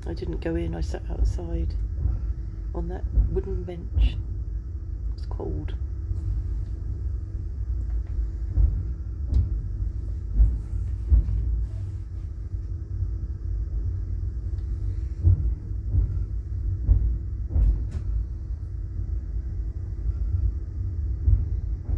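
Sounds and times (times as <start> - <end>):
faint hum: 0.0 - 21.9
train car rolling rumble: 0.0 - 21.9.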